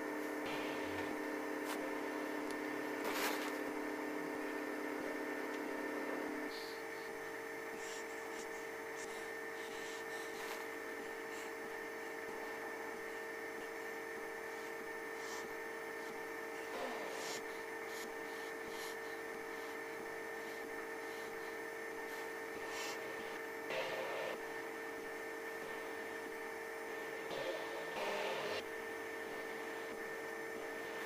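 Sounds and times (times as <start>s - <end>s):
electrical hum and hiss: 0.0s - 31.0s.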